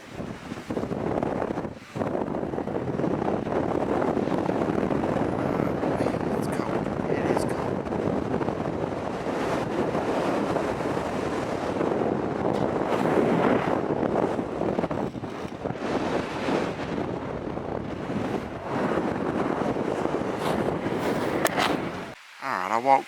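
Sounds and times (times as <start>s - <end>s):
wind buffeting microphone: 0.0s - 22.2s.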